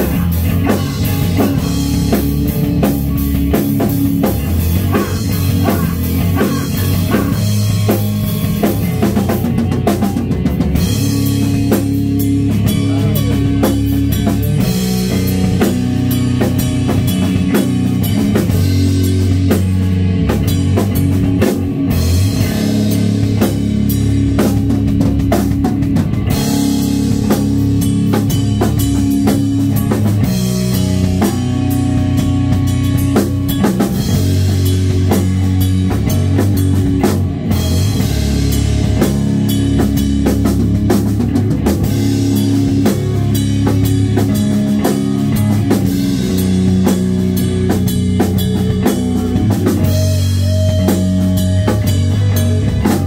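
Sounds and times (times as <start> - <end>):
electric bass: 0.0 - 53.0
electric guitar: 0.0 - 53.0.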